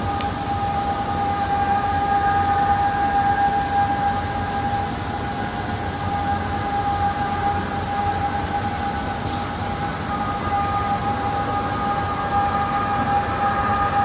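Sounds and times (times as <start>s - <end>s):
siren-like hum in the sky: 0.0s - 14.0s.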